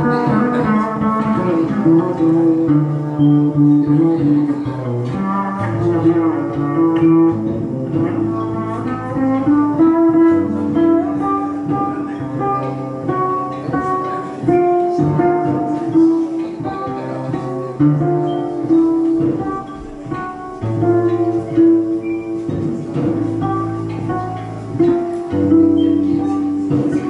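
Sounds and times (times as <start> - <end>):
solo guitar melody: 0.0 - 27.0.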